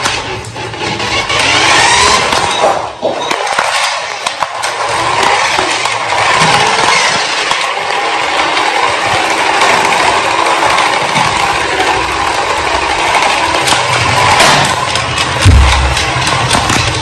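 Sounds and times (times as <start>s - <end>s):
toy car motor whirring: 0.0s - 2.7s, 3.4s - 17.0s.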